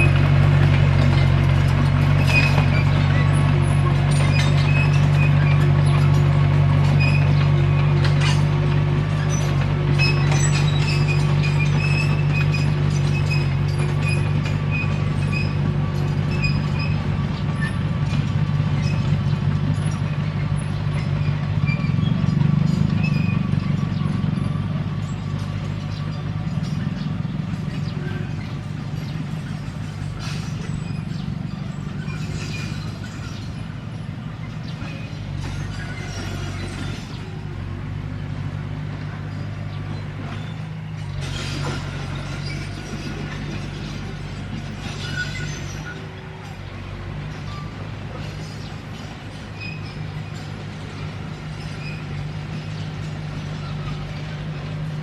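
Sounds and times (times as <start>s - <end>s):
bulldozer diesel engine running: 0.0s - 55.0s
tracks squeaking: 0.0s - 55.0s.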